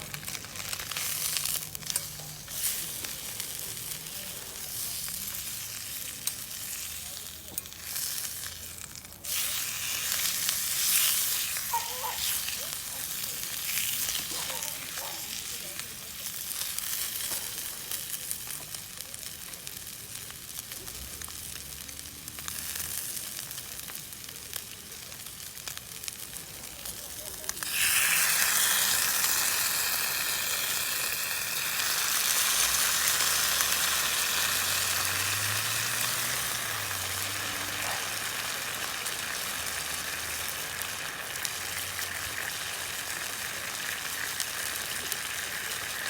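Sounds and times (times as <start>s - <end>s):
steak sizzling: 0.0s - 46.0s.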